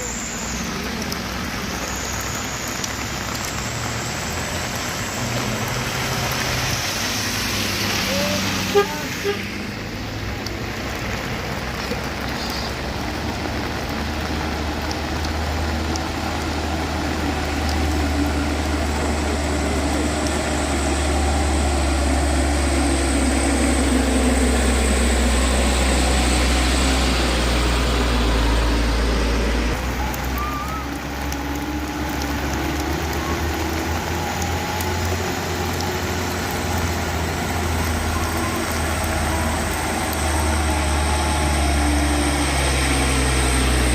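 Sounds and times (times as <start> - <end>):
heavy vehicle engine rumbling: 0.0 - 43.9.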